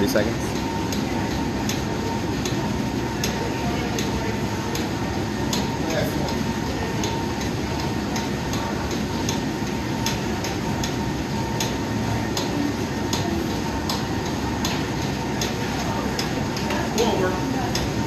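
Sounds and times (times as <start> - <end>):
cardio machines running: 0.0 - 18.0.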